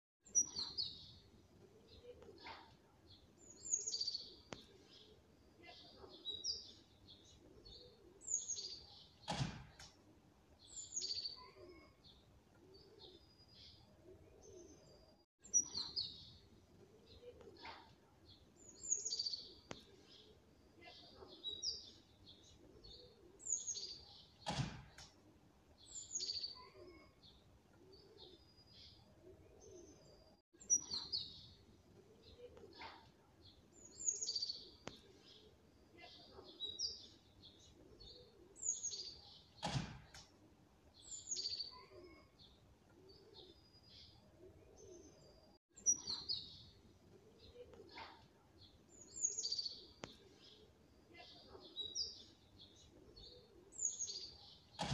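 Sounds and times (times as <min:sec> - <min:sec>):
small birds chirping: 0:00.2 - 0:54.9.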